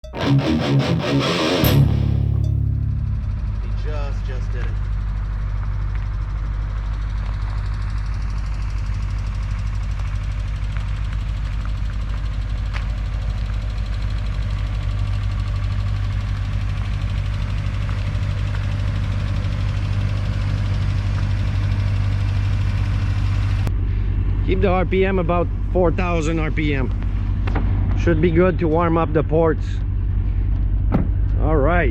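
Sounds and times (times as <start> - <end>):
rotary engine running steadily: 1.3 - 31.9.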